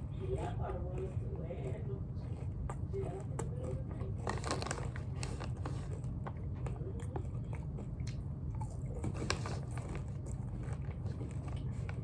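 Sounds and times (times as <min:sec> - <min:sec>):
chewing and crunching popcorn: 0:00.0 - 0:12.0
steady low hum: 0:00.0 - 0:12.0.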